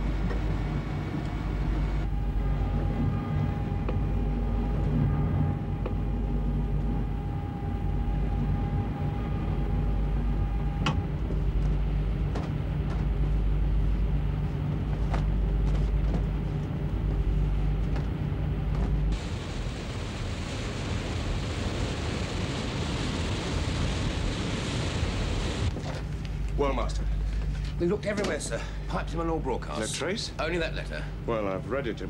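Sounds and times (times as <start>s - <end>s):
low machinery drone: 0.0s - 32.0s.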